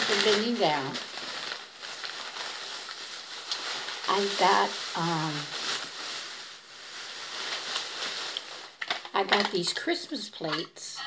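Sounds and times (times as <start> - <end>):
plastic bag rustling: 0.0 - 10.7.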